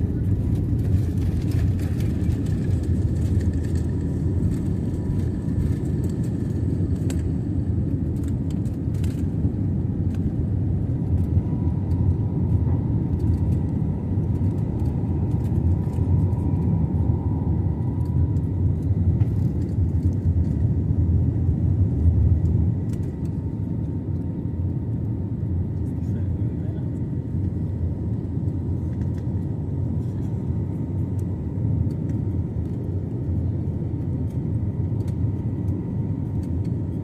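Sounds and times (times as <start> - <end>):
airliner cabin engine rumble: 0.0 - 37.0.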